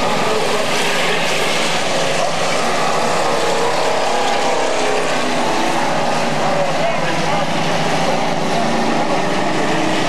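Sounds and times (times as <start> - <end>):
stock car engines racing: 0.0 - 10.0.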